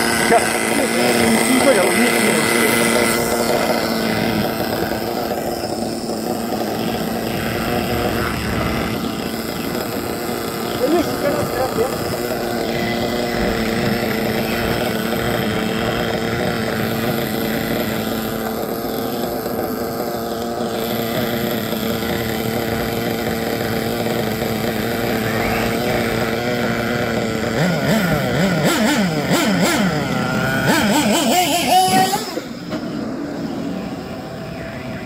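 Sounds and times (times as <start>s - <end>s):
engine throttle blips: 0.0s - 35.0s
model car engine idling: 0.0s - 35.0s.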